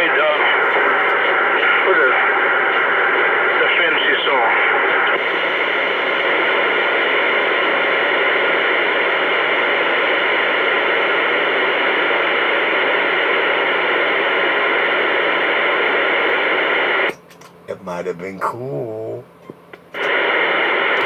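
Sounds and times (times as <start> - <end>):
static hiss: 0.0 - 21.0.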